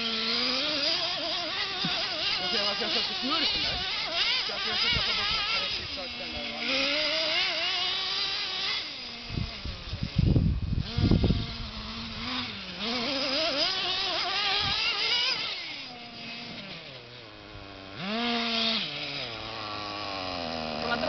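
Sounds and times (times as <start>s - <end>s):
toy car motor whining: 0.0s - 21.0s.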